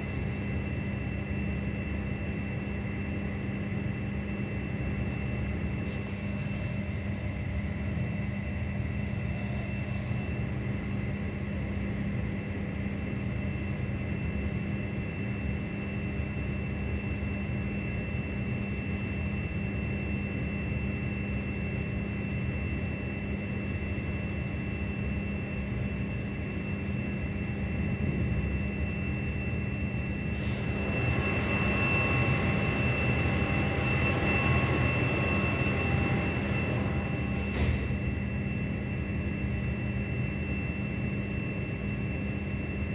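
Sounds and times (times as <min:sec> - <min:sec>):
faint steady whine: 0:00.0 - 0:42.9.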